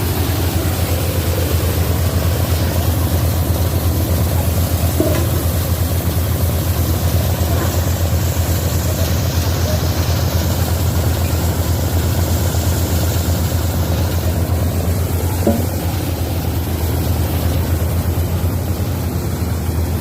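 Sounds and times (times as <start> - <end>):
thresher engine drone: 0.0 - 20.0.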